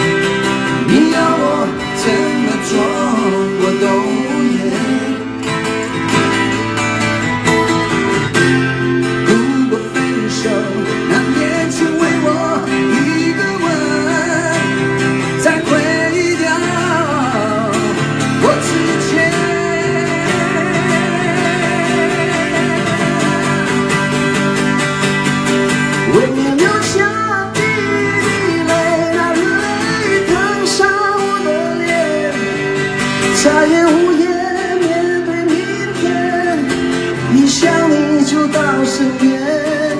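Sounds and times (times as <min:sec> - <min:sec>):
men singing: 0:00.0 - 0:05.7, 0:09.1 - 0:24.0, 0:26.0 - 0:39.9
acoustic guitars strummed: 0:00.0 - 0:39.9.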